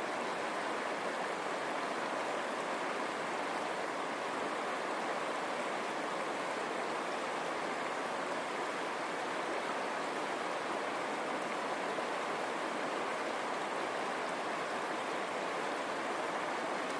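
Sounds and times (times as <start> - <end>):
river water running over stones: 0.0 - 16.9.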